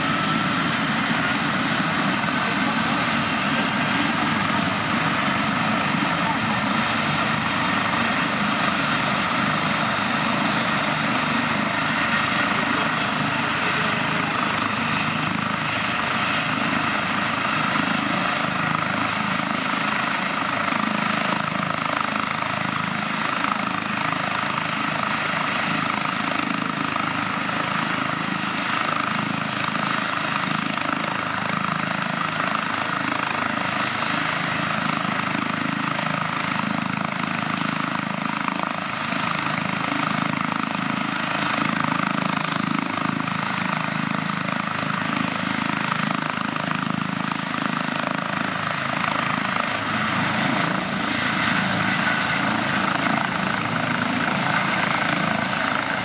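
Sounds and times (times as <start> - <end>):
helicopter engines and rotor: 0.0 - 56.0.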